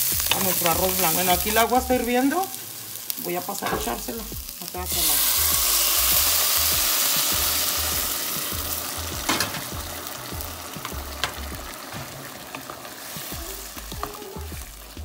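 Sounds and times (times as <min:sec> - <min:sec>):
loud sizzling hiss: 0:00.0 - 0:15.0.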